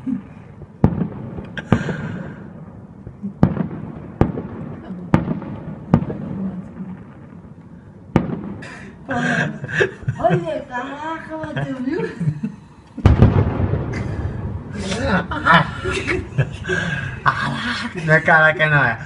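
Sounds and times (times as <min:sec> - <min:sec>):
low rumble: 0:00.0 - 0:10.4, 0:13.0 - 0:18.6
fireworks bursting: 0:00.2 - 0:11.9, 0:13.0 - 0:18.9.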